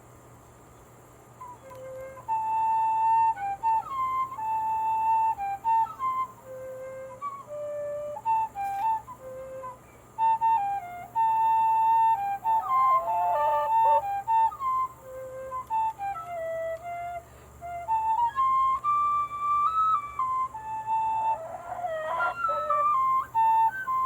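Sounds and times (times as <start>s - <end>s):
tin whistle melody: 1.4s - 24.0s.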